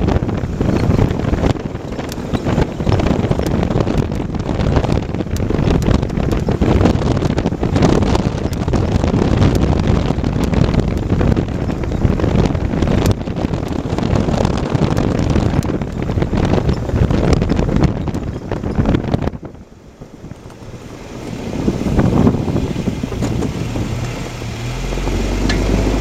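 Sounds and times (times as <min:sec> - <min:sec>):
car road and wind noise: 0:00.0 - 0:26.0.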